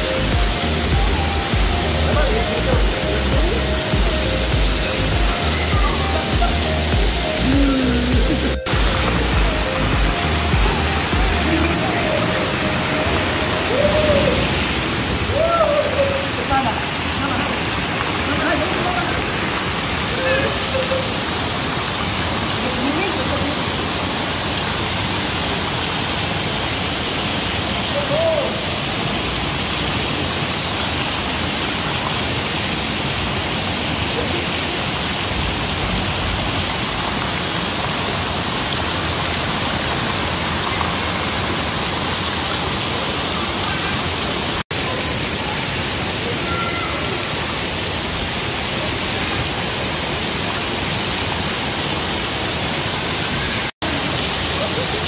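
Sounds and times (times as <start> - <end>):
water pouring and splashing: 0.0 - 55.0.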